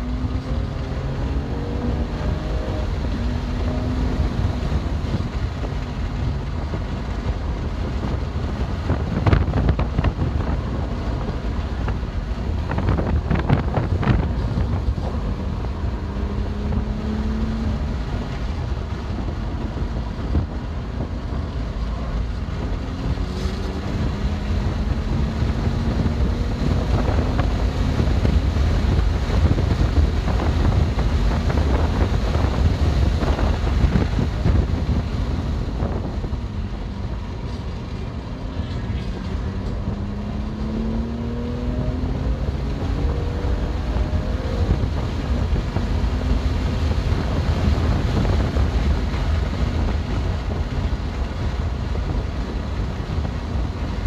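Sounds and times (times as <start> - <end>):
car engine revving: 0.0 - 54.0
wind and road rumble: 0.0 - 54.0.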